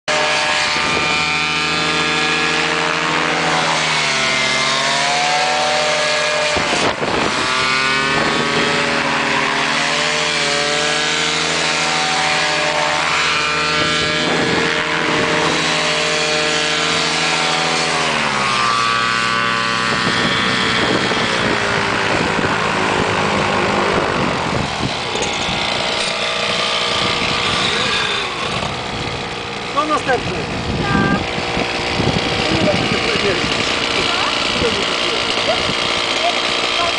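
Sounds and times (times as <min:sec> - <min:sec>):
paramotor engine running: 0:00.0 - 0:36.9.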